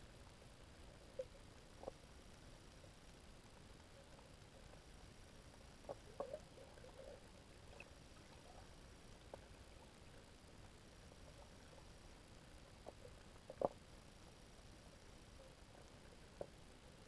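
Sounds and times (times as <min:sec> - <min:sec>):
faint underwater clicks: 0:00.0 - 0:17.0.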